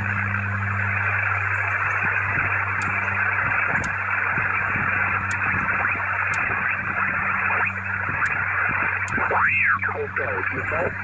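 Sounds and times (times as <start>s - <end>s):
radio static hiss: 0.0s - 11.0s
steady low hum: 0.0s - 11.0s.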